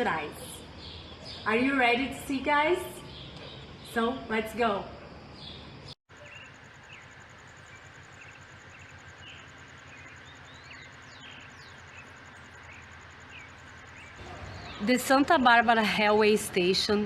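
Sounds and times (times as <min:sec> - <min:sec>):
faint high insect whine: 0:00.0 - 0:17.0
low background hum: 0:00.0 - 0:17.0.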